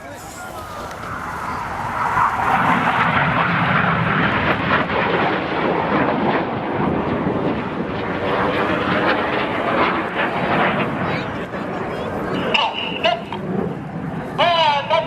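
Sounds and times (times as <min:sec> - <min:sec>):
jet aircraft flying low: 0:00.0 - 0:15.0.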